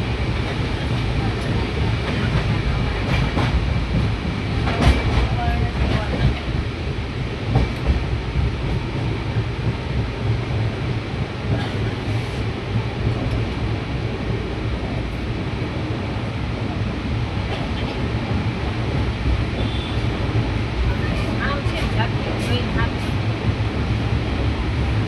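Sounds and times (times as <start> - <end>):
train rumbling and rattling: 0.0 - 25.0.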